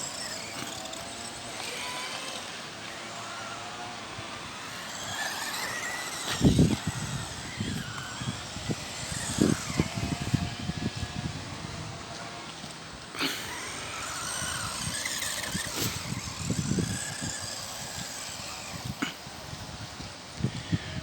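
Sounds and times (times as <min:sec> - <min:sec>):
electric motors whining: 0:00.0 - 0:21.0.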